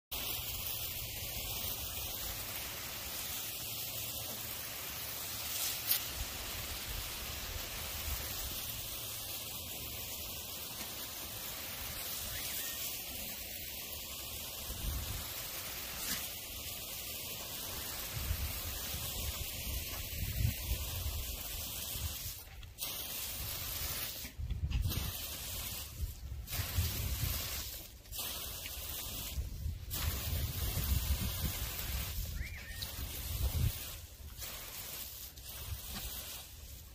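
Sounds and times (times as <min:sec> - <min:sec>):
lawn sprinkler spraying water: 0:00.1 - 0:36.9.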